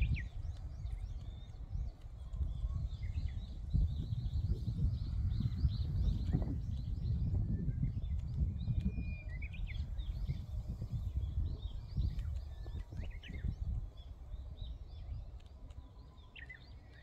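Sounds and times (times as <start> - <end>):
small birds chirping: 0.0 - 17.0
wind gusts on microphone: 0.0 - 17.0.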